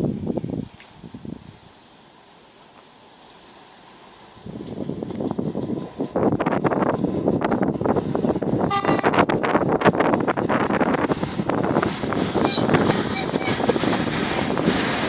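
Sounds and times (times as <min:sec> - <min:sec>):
wind buffeting microphone: 0:00.0 - 0:01.7, 0:04.4 - 0:15.0
freight train rumble: 0:00.0 - 0:15.0.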